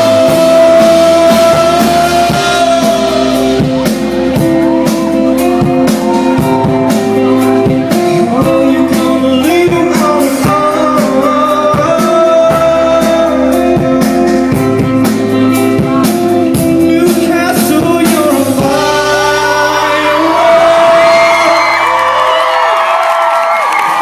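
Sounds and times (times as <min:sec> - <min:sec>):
steady drum beat: 0:00.0 - 0:19.8
guitar chords: 0:00.0 - 0:21.8
person singing: 0:00.0 - 0:22.2.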